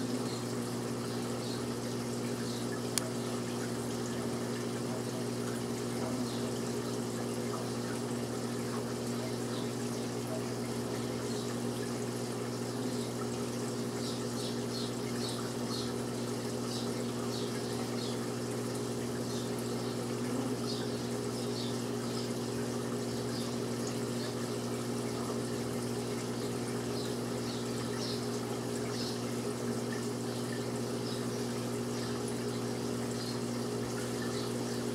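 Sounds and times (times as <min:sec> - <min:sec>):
electric hum: 0:00.0 - 0:34.9
water trickling and bubbling: 0:00.0 - 0:34.9.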